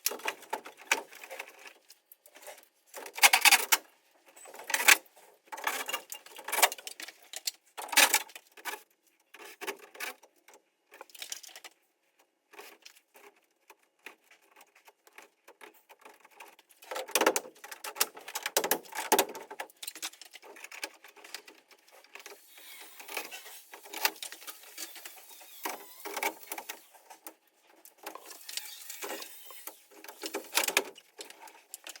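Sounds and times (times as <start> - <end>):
clatter of parts and tools: 0.0 - 32.0.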